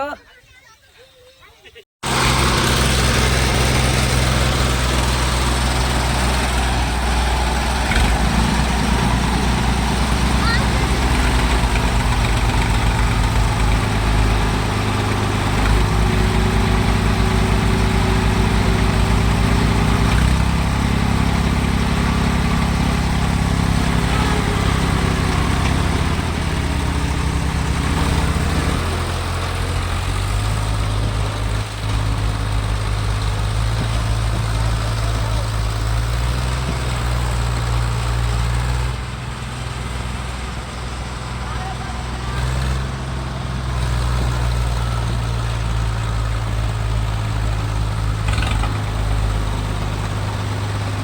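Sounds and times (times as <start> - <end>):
tractor diesel engine running: 2.0 - 51.0.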